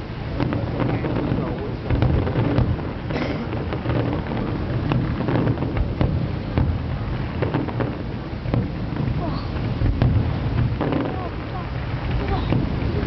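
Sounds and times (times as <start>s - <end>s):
firework cracks and bangs: 0.0s - 13.0s
low rumble of booms: 0.0s - 13.0s.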